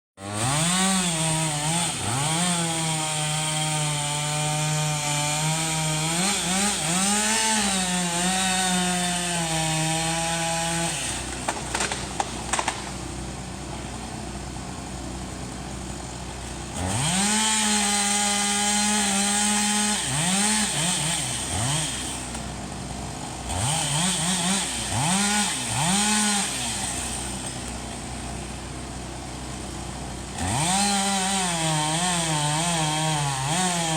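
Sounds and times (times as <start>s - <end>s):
chainsaw revving and idling: 0.2s - 33.9s.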